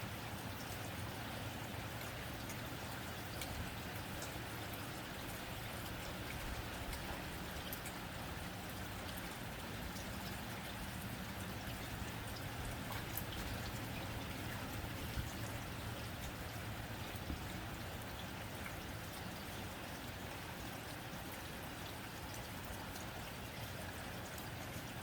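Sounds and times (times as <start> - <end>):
rain on a tin roof: 0.0 - 25.0.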